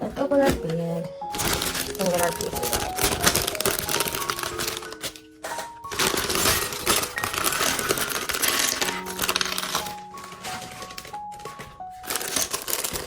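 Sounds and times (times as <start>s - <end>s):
plastic pieces clattering: 0.0s - 13.0s.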